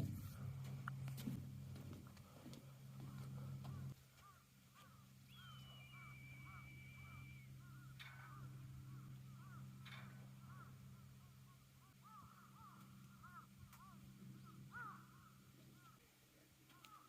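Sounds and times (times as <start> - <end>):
faint birds calling: 0.0 - 17.0
steady low hum: 0.0 - 17.0.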